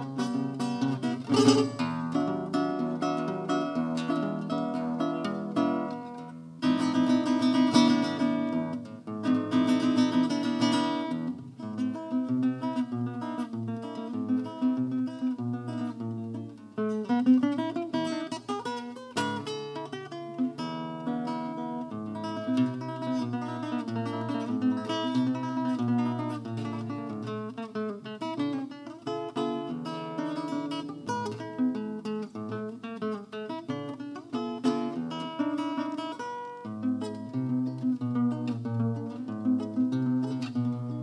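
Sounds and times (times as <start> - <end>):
classical guitar playing: 0.0 - 41.0.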